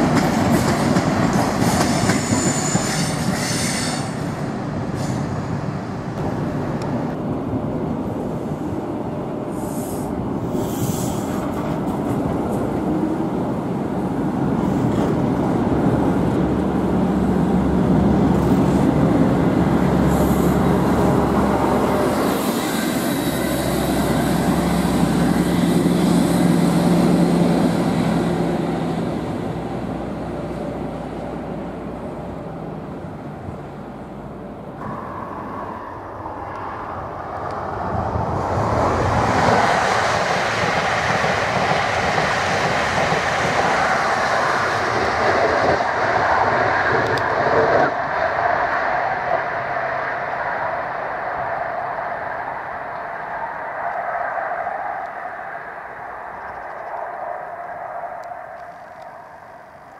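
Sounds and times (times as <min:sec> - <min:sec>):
diesel train engine passing: 0:00.0 - 0:59.9
train wheel and rail noise: 0:00.0 - 0:59.9.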